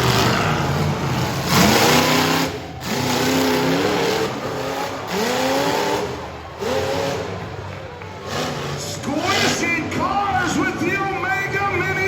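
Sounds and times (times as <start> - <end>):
truck engine revving hard: 0.0 - 11.1.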